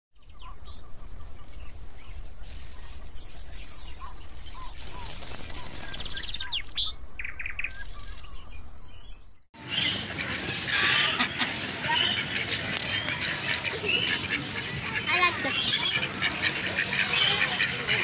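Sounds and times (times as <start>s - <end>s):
birds chirping and trilling: 0.2s - 18.0s.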